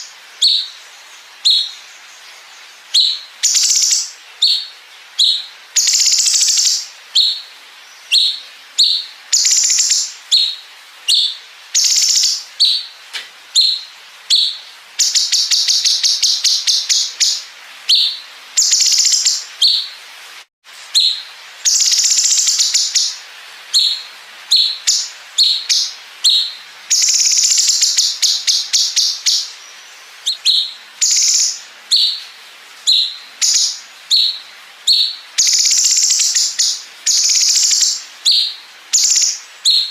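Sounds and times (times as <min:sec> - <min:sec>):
bird singing chirped phrases: 0:00.0 - 0:20.0, 0:23.8 - 0:39.9.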